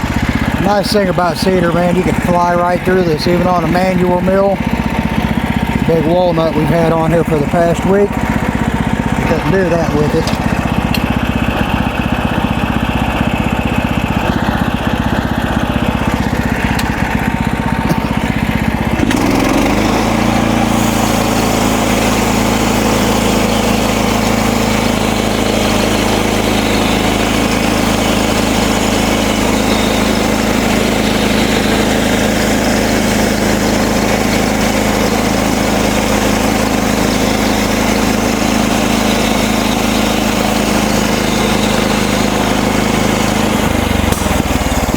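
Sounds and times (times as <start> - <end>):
bandsaw mill engine sawing wood: 0.0 - 44.9.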